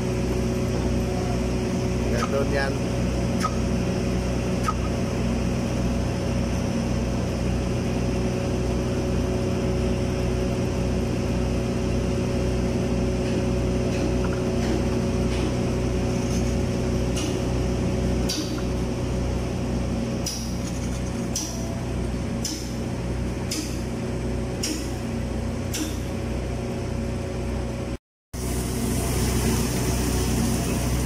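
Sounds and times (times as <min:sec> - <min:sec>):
machinery drone with low throb: 0:00.0 - 0:31.0.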